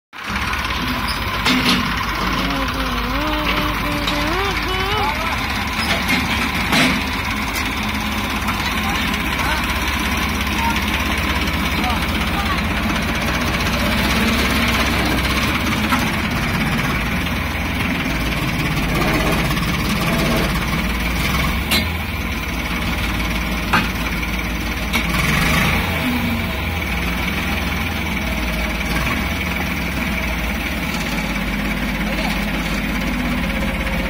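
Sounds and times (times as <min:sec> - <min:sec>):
tractor diesel engine running: 0:00.1 - 0:34.0.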